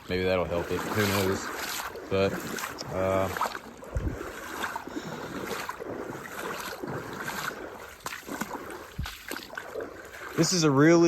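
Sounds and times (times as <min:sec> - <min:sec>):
creek water rushing and splashing: 0:00.0 - 0:11.0.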